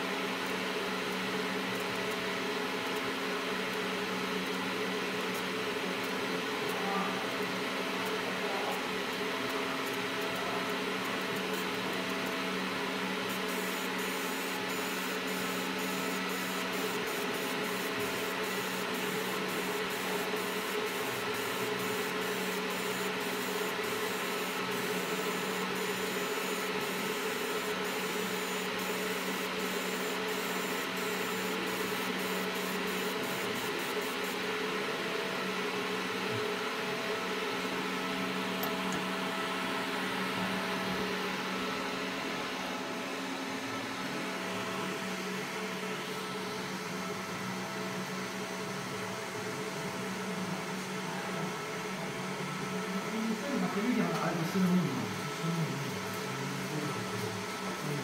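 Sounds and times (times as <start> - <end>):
machine fan hum: 0.0 - 58.0.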